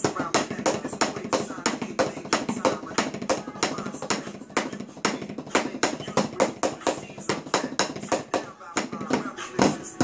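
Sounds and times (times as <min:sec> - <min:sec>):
drumsticks tapping practice pad: 0:00.0 - 0:10.0.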